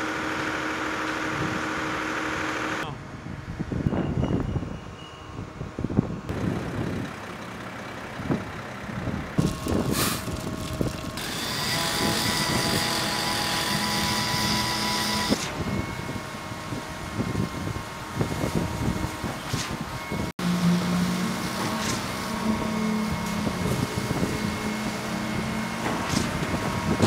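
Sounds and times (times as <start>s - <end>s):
heavy diesel machinery running: 0.0s - 3.2s, 6.1s - 27.0s.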